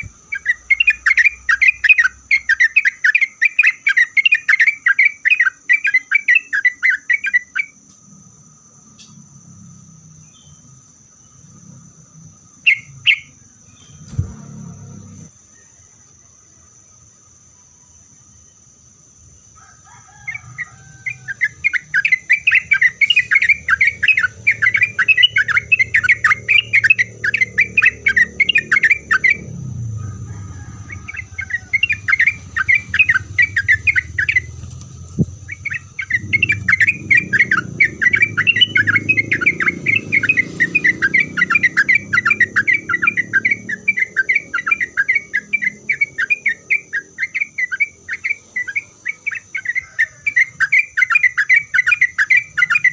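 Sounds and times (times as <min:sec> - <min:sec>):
bulbul chattering song: 0:00.0 - 0:07.9, 0:10.1 - 0:15.3, 0:20.1 - 0:52.9.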